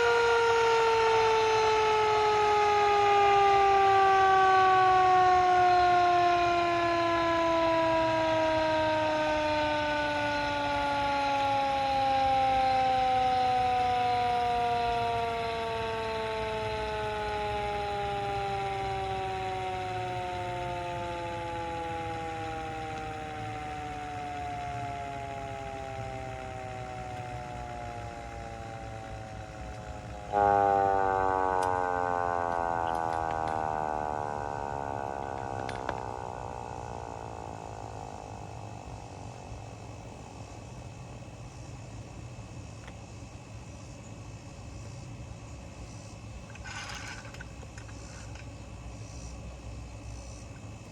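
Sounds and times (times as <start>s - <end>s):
hand-crank siren wailing: 0.0s - 41.2s, 46.5s - 49.3s.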